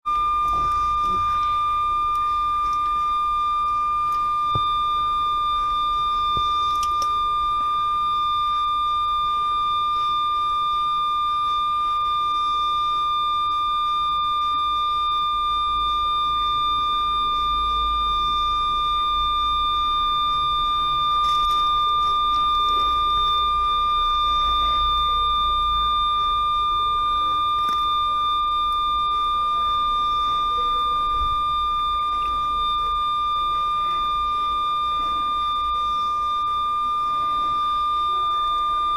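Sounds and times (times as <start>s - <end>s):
long electronic beep: 0.1s - 38.9s.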